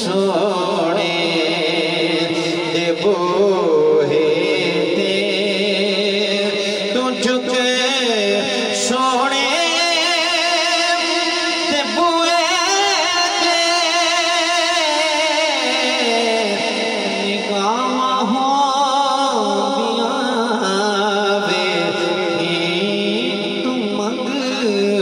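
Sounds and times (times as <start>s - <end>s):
person singing devotional chant: 0.0s - 25.0s.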